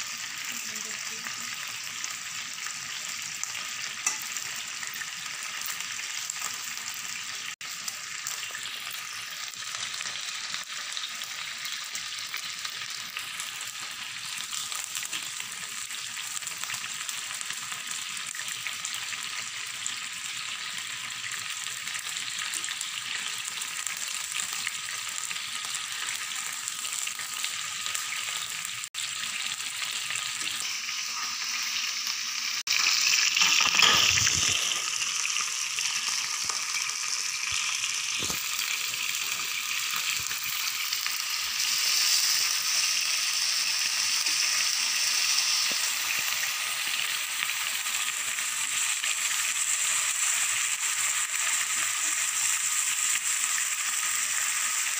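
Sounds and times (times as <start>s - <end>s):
meat sizzling in oil: 0.0s - 54.9s.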